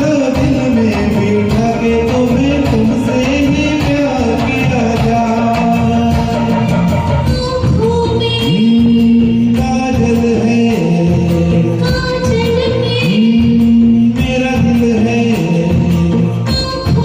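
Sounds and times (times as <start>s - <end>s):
backing track with beat and percussion: 0.0s - 17.0s.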